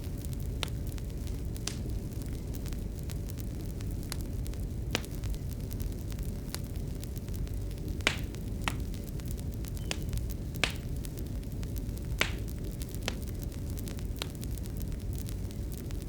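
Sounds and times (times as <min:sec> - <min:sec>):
faint steady hum: 0:00.0 - 0:16.0
fireplace crackling: 0:00.0 - 0:16.0.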